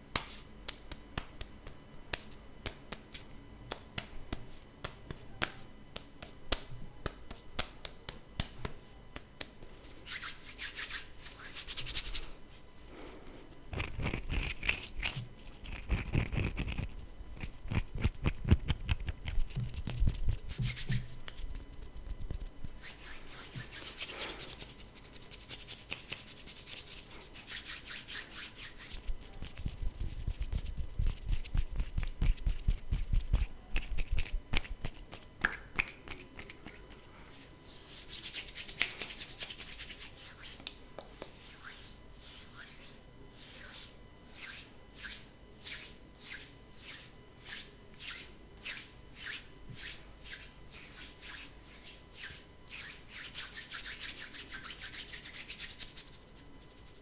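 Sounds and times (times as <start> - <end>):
hands rubbing together: 0.2 - 57.0.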